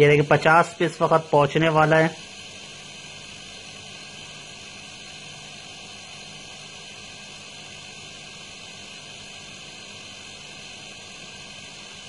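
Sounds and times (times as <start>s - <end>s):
refrigerator compressor humming: 0.0s - 12.0s.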